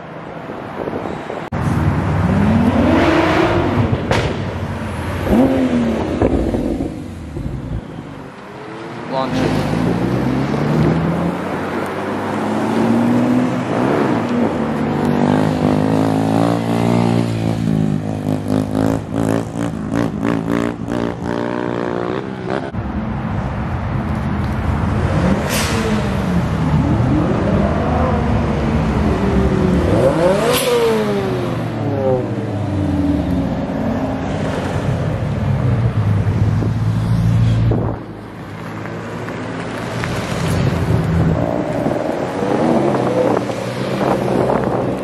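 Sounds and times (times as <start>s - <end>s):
car engines revving and accelerating: 0.0s - 45.0s
cars passing close by: 0.0s - 45.0s.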